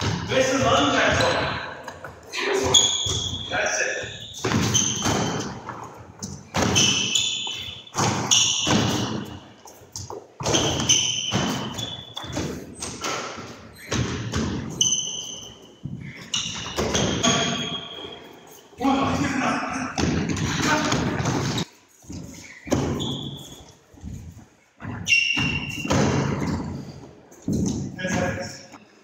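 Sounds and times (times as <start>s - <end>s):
sports shoes squeaking: 0.0s - 29.0s.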